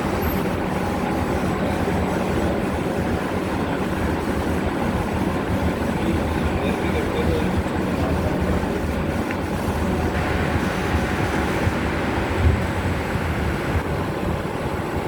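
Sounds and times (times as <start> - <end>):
blower hum and rushing air: 0.0 - 15.0
laser cutting machine running: 0.0 - 15.0.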